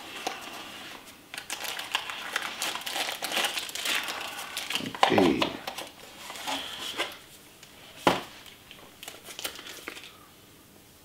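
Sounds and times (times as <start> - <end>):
cardboard packaging rustling: 0.0 - 10.2.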